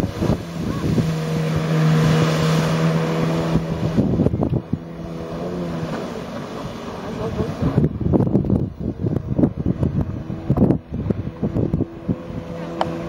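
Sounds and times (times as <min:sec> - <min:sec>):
jet ski engine running: 0:00.0 - 0:13.0
rush of spray and wind: 0:00.0 - 0:13.0.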